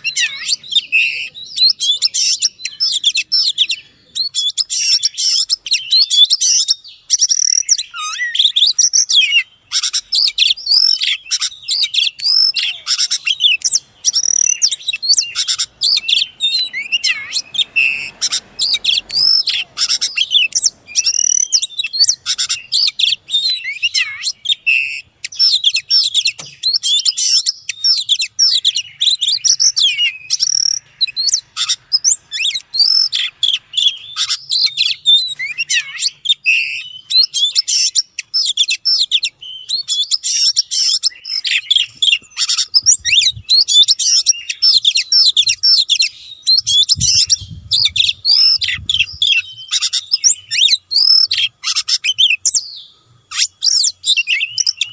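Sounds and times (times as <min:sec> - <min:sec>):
songbird whistles chirps and trills: 0:00.0 - 0:54.9.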